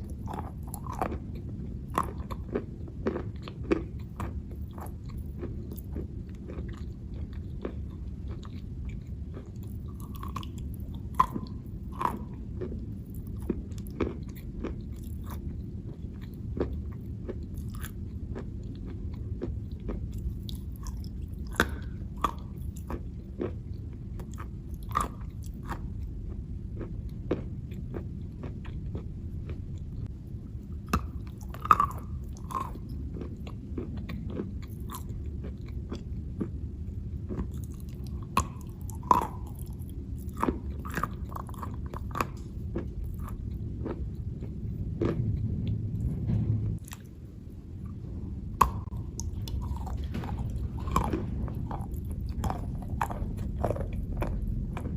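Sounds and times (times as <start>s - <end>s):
chalk crunching being chewed: 0.0s - 30.1s, 30.7s - 45.8s, 47.8s - 54.9s
low background noise: 0.0s - 54.9s.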